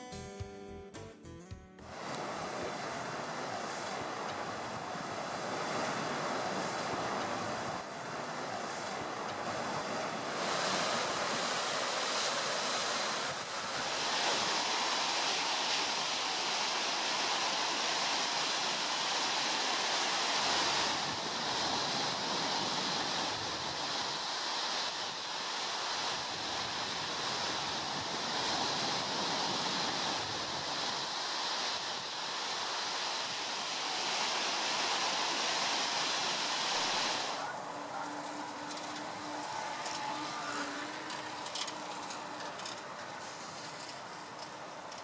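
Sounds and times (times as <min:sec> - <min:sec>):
surf breaking on a beach: 0:01.9 - 0:45.0.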